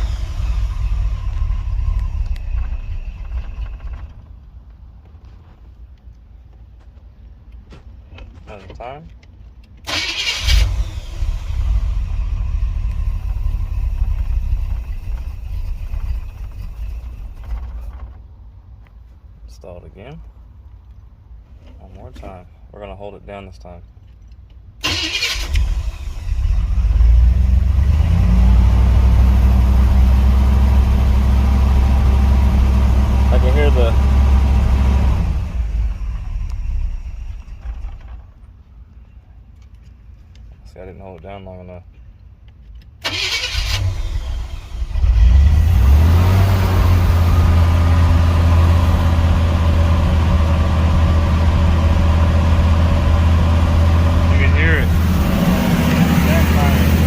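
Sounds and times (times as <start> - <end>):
engine uneven rumble: 0.0 - 57.0.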